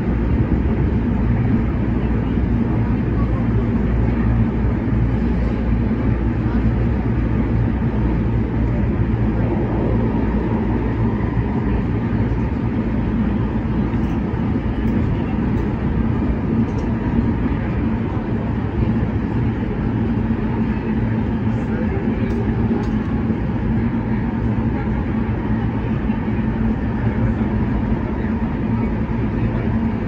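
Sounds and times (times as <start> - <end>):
constant low hum: 0.0 - 30.0
train wheels rumbling on rail: 0.0 - 30.0.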